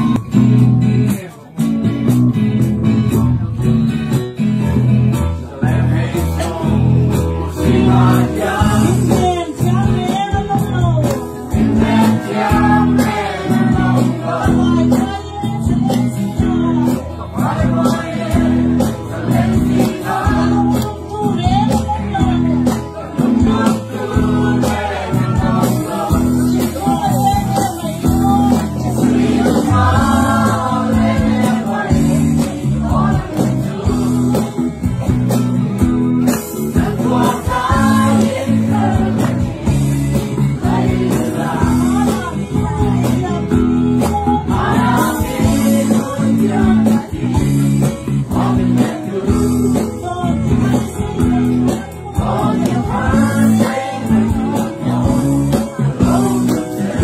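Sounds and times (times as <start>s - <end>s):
guitar accompaniment: 0.0s - 57.0s
group singing: 5.2s - 9.8s, 11.5s - 21.4s, 22.4s - 35.2s, 36.2s - 57.0s.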